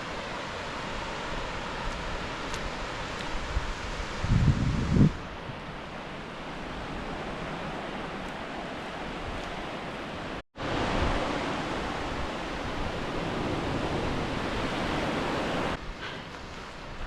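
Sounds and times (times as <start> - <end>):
ocean surf on sandy beach: 0.0 - 17.0.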